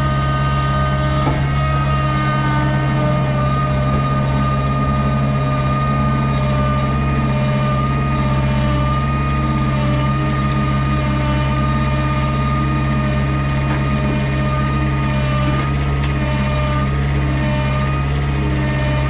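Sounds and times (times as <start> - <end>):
high whine: 0.0 - 18.2
skid steer engine running: 0.0 - 19.0.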